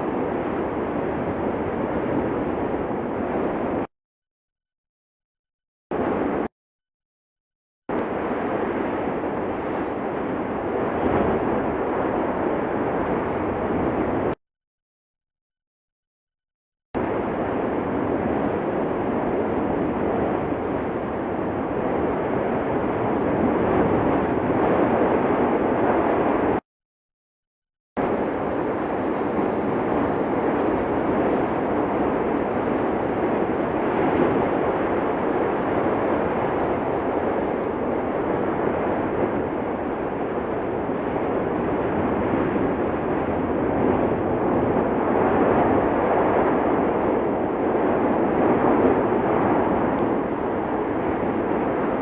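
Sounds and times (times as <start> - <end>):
volcano rumbling: 0.0 - 3.9, 7.9 - 14.4, 17.0 - 26.6, 28.0 - 52.0.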